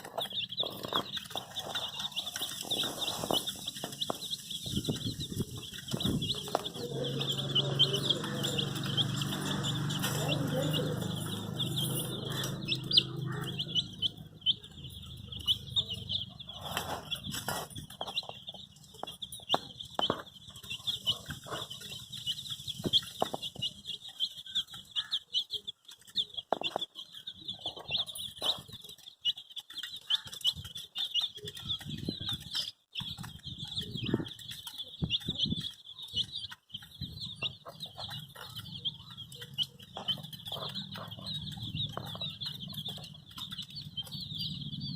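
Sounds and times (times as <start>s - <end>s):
baby chicks cheeping: 0.0s - 44.9s.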